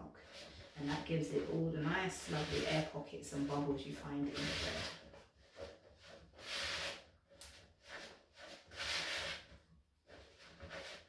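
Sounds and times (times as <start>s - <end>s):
spatula scraping dough in bowl: 0.0s - 11.0s.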